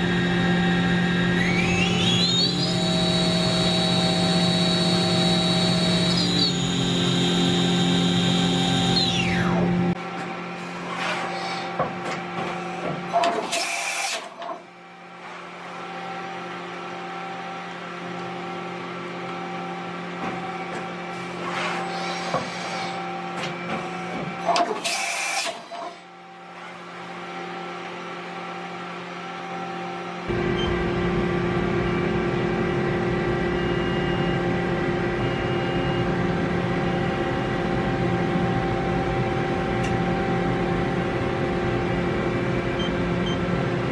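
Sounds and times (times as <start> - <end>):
machine humming and whining: 0.0 - 43.9.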